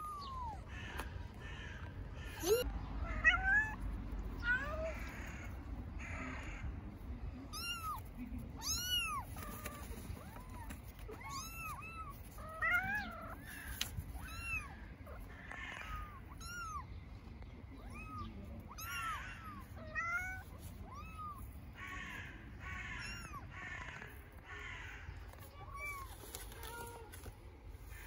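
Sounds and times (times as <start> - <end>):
kittens meowing: 0.0 - 6.7, 7.5 - 28.0.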